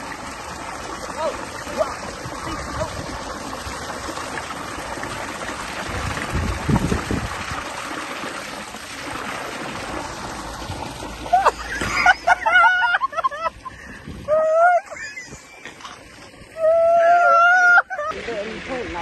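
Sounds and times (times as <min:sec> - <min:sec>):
heavy water splash: 0:00.0 - 0:17.3
pool water running and splashing: 0:00.0 - 0:19.0.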